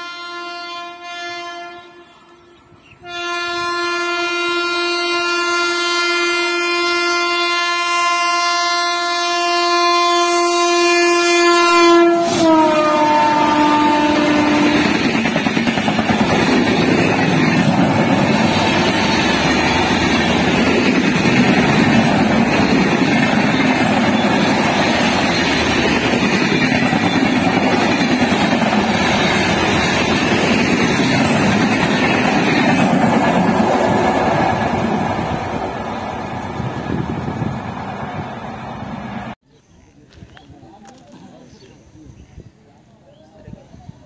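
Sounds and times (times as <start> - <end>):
train rushing past on rails: 0.0 - 39.4.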